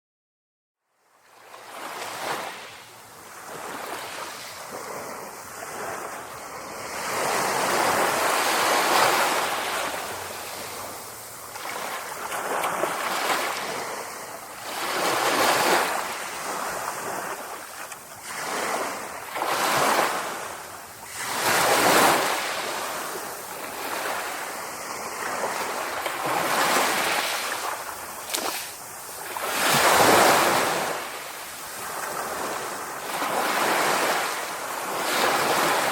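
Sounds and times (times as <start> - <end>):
sea waves breaking: 1.3 - 35.9.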